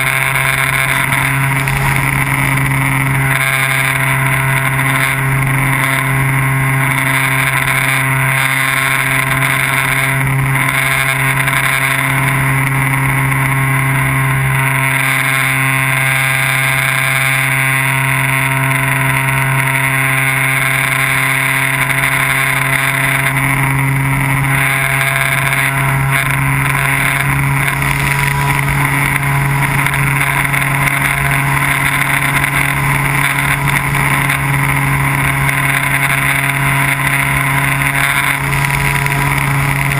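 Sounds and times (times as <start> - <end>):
drone motor and propeller humming: 0.0 - 39.9.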